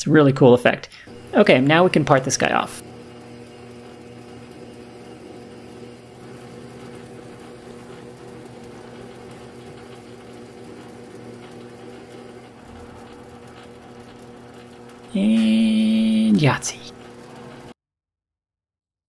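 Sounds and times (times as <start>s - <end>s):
metal lathe humming: 0.9s - 17.8s
parting tool cutting tube: 1.1s - 17.7s.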